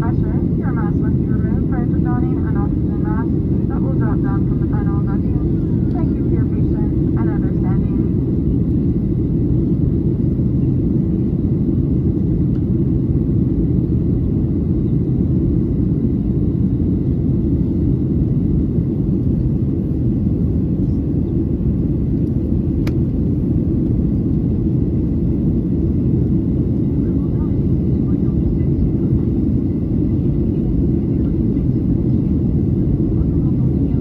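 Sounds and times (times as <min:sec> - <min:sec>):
airplane cabin engine rumble: 0:00.0 - 0:34.0.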